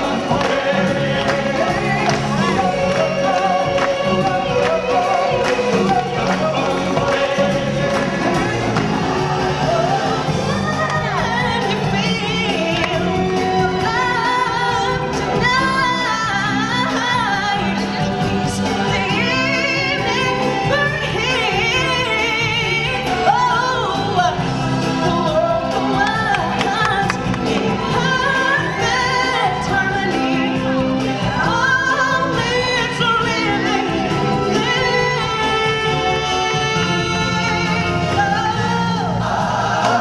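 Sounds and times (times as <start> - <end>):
musical accompaniment with bass: 0.0 - 40.0
performers singing: 0.0 - 40.0.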